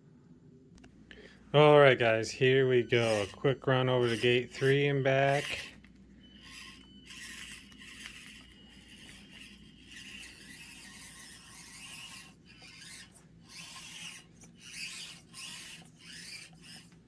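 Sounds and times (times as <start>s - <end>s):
small electric motor whining: 1.8s - 17.0s.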